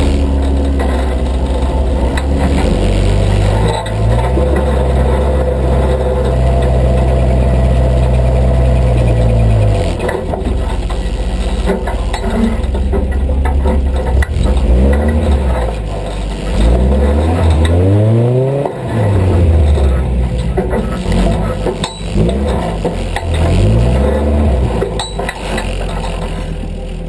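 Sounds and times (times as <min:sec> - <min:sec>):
engine humming and revving: 0:00.0 - 0:27.0.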